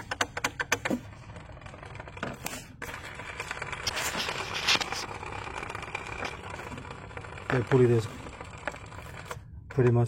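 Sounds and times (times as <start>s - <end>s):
pulley clicking: 0.0s - 10.0s
pulley scraping and rattling: 0.0s - 10.0s.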